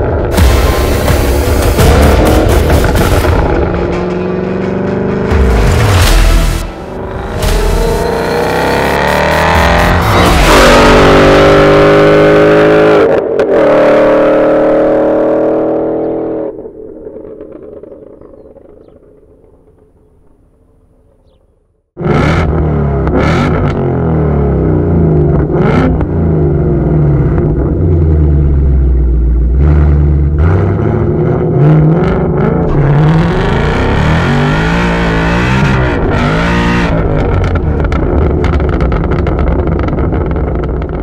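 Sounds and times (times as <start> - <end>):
car engine revving and accelerating: 0.2 - 16.6, 22.0 - 41.0.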